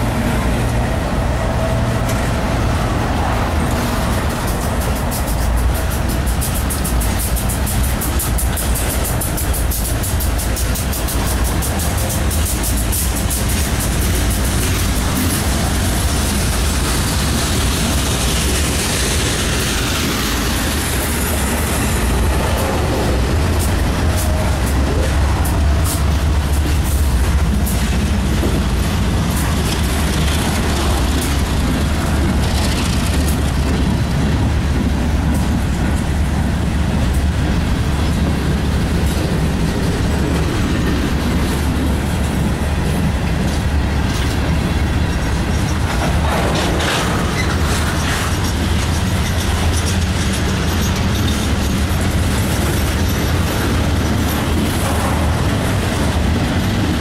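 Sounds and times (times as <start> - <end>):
freight train wheels rumbling: 0.0 - 57.0
wheels clacking over rail joints: 1.6 - 57.0.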